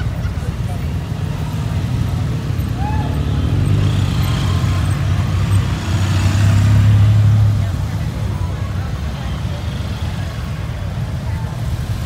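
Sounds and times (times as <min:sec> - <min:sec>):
motorcycle engines rumbling past: 0:00.0 - 0:12.0.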